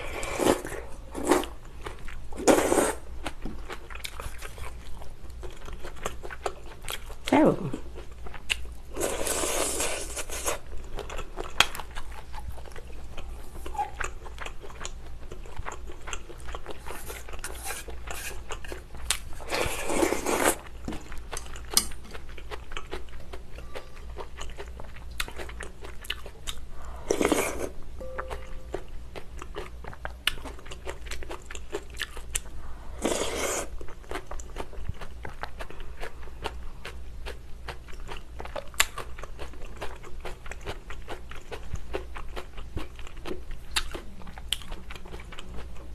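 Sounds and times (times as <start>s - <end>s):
chewing and crunching: 0.0s - 2.6s, 3.2s - 27.8s, 28.6s - 45.9s.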